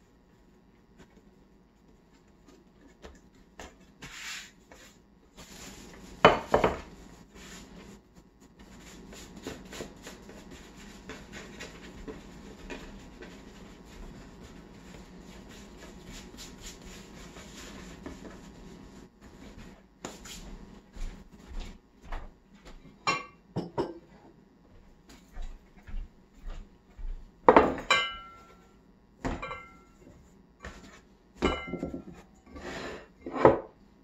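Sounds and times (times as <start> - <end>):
hands rolling bread dough: 0.0 - 23.1, 24.7 - 33.8.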